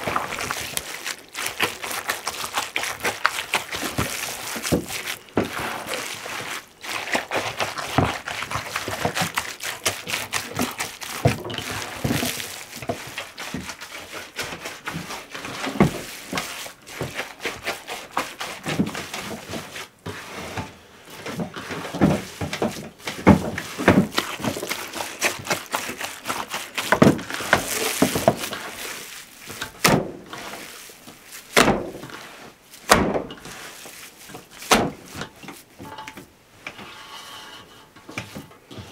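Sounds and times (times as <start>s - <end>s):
hands squelching and slapping meat: 0.0s - 20.0s, 21.6s - 35.8s.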